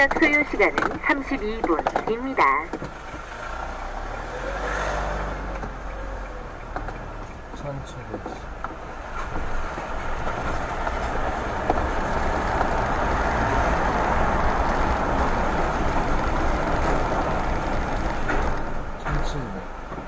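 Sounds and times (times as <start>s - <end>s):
car tyre and road noise: 0.0s - 20.0s.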